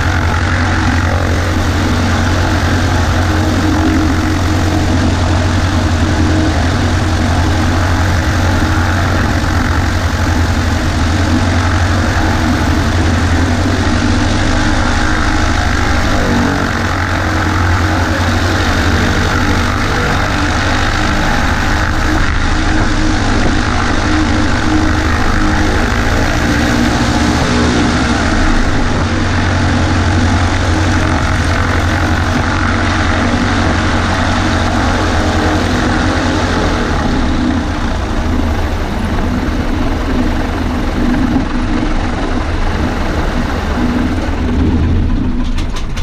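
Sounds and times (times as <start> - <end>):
propeller plane engine droning: 0.0 - 46.0.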